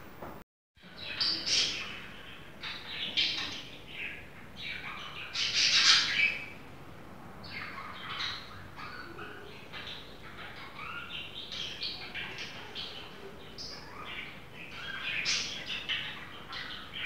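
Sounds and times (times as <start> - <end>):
birds chirping and singing: 0.8 - 6.6, 7.4 - 17.0.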